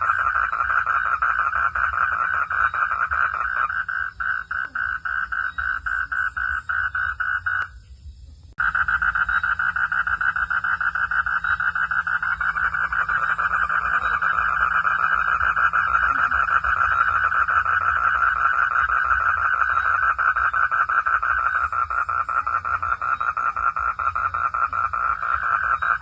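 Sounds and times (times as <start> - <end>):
frog calling in pulsing trill: 0.0 - 7.8, 8.6 - 26.0.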